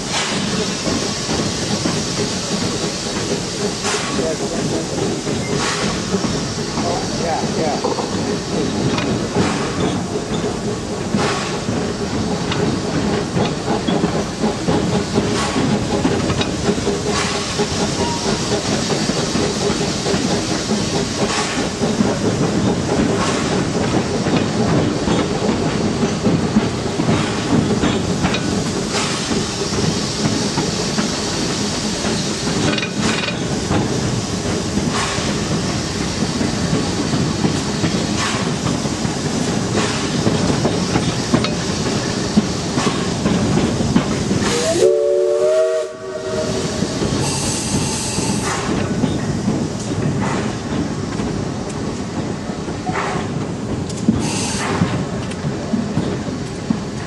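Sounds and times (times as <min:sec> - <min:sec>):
wheels clicking over rail joints: 0:00.0 - 0:44.6, 0:46.9 - 0:57.0
steam hissing: 0:00.0 - 0:57.0
train running noise: 0:00.0 - 0:57.0.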